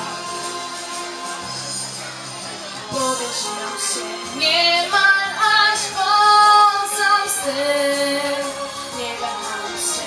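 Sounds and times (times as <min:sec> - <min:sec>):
pop ballad over loudspeakers: 0:00.0 - 0:10.0.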